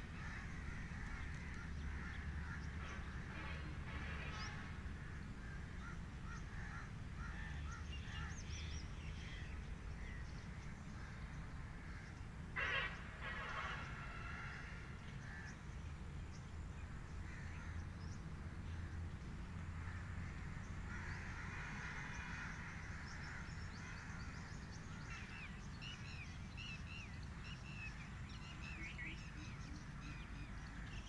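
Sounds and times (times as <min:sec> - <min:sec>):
birds calling: 0:00.0 - 0:31.0
low background rumble: 0:00.0 - 0:31.0.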